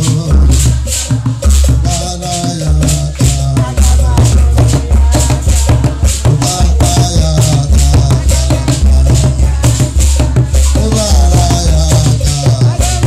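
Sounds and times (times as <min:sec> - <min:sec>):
hand drums: 0:00.0 - 0:13.0
heavy pulsing bass: 0:00.0 - 0:13.0
man singing through loudspeaker: 0:00.0 - 0:13.0
shaker: 0:00.0 - 0:13.0.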